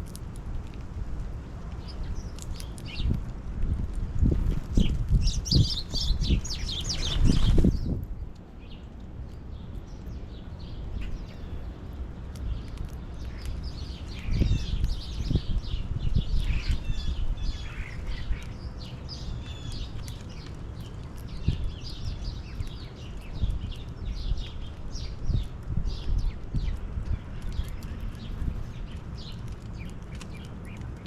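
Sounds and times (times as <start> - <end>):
small birds chirping: 1.7 - 31.0.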